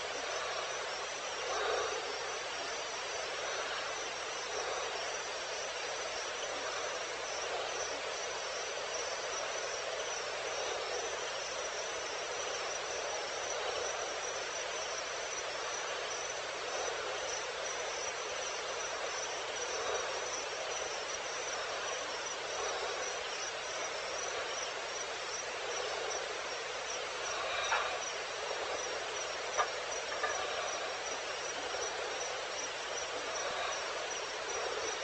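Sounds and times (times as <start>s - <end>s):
hiss of distant insects: 0.0s - 35.0s
pulsing cricket-like chirp: 0.0s - 35.0s.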